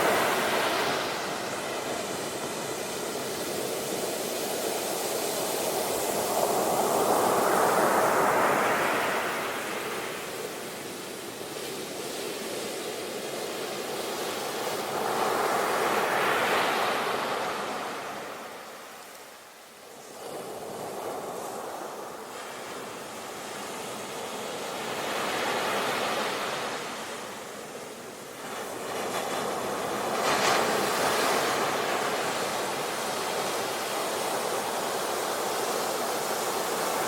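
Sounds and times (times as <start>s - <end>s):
surf hiss: 0.0s - 37.0s
waves breaking on shore: 0.0s - 37.0s.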